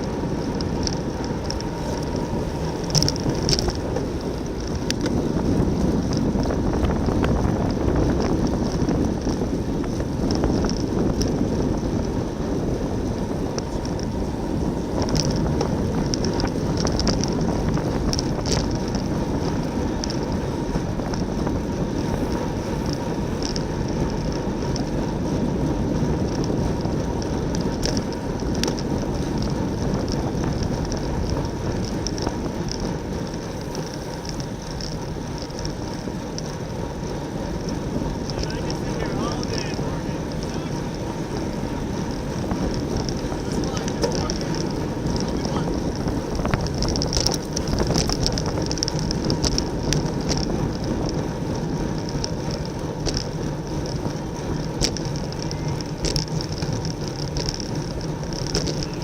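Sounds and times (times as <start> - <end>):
bicycle tyre and road noise: 0.0 - 59.0
wind rushing over microphone: 0.0 - 59.0.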